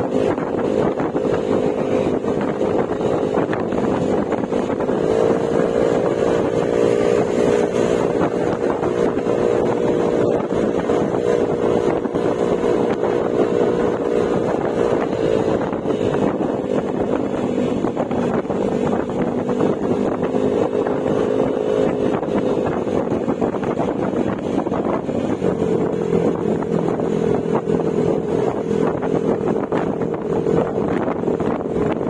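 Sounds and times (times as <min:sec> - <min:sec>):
scooter engine running: 0:00.0 - 0:32.0
wind noise on microphone: 0:00.0 - 0:32.0.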